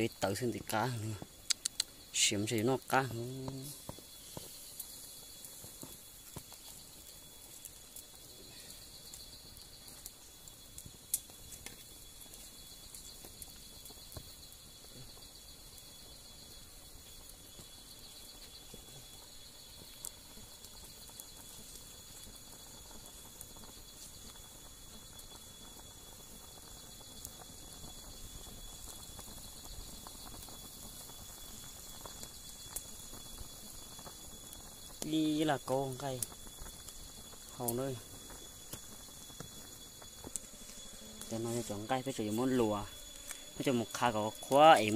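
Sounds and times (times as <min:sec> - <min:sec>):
campfire crackling and popping: 0:00.0 - 0:44.9
insects buzzing: 0:00.0 - 0:44.9.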